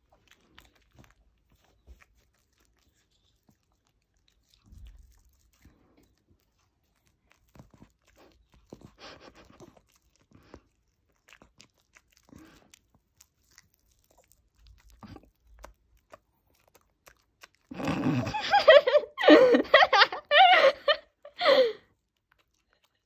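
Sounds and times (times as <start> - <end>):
dog chewing: 0.0 - 18.2, 22.0 - 23.0.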